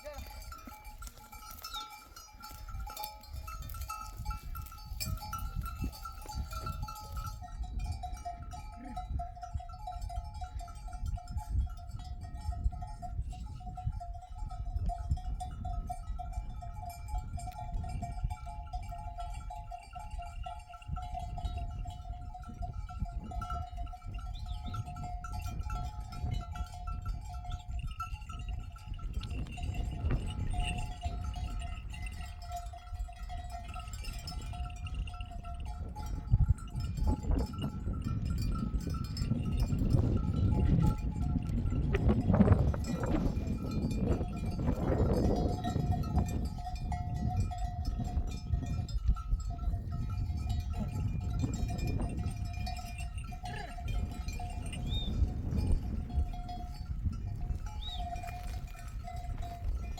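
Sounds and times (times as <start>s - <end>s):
sheep bells ringing: 0.0s - 59.9s
wind rumble on microphone: 0.0s - 59.9s.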